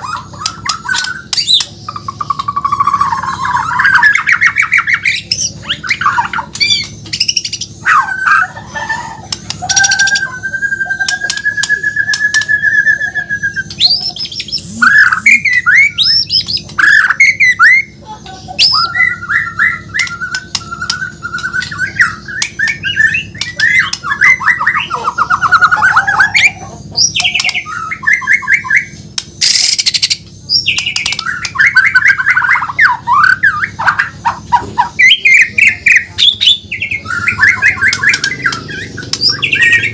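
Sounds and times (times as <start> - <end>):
bird singing whistles and trills: 0.0 - 8.4, 9.4 - 18.0, 18.6 - 39.9
low hum: 0.0 - 39.9.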